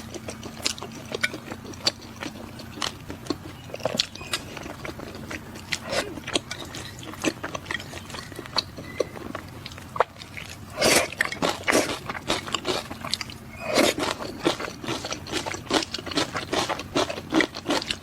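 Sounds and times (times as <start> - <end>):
chewing crisp flatbread: 0.0 - 18.0.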